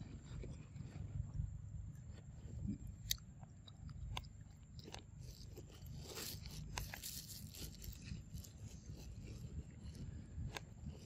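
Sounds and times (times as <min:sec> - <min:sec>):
monkey crunching fruit rind: 0:02.1 - 0:11.0.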